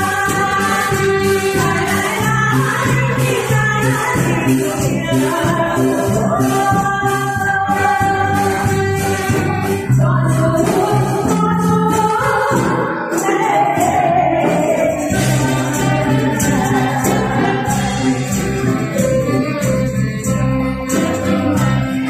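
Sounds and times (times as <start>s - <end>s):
woman singing pop song: 0.0s - 17.8s
amplified instrumental accompaniment: 0.0s - 22.0s.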